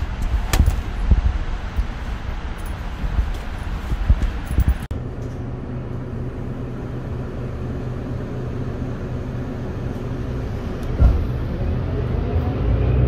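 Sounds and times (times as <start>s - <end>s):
bus engine hum and rumble: 0.0s - 13.0s.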